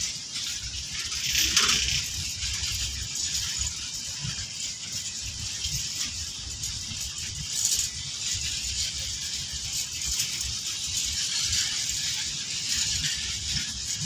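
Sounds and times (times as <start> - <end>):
continuous hiss: 0.0 - 14.0
steel wheels rattling on rails: 0.0 - 14.0.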